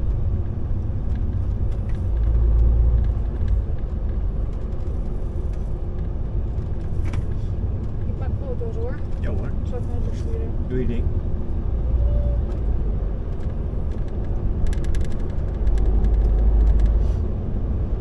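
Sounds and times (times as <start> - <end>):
lorry engine and road noise: 0.0 - 18.0.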